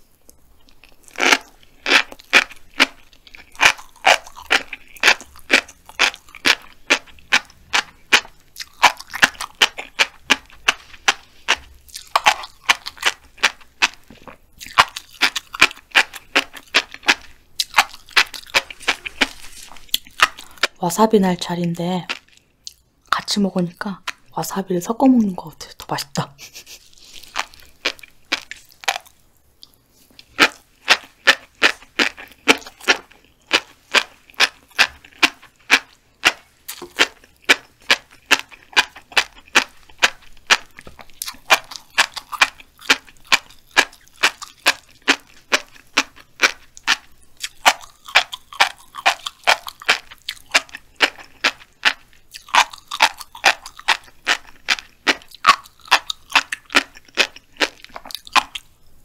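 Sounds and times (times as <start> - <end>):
chewing: 0.2 - 20.8, 22.0 - 23.2, 26.7 - 58.8.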